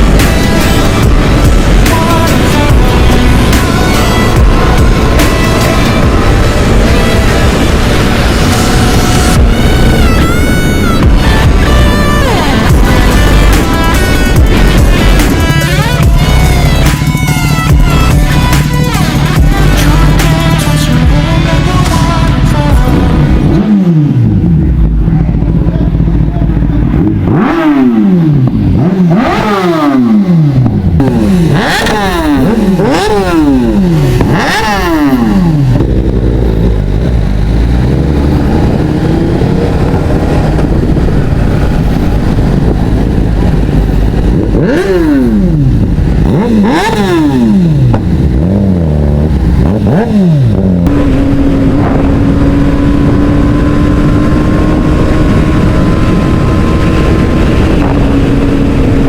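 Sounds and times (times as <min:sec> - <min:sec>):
engine running steadily: 0:00.0 - 0:59.0
motorcycle engines passing: 0:00.0 - 0:59.0.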